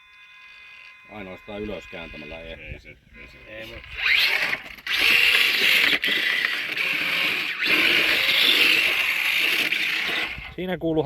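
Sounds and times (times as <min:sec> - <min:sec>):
small electric motor whining: 0:00.0 - 0:10.6.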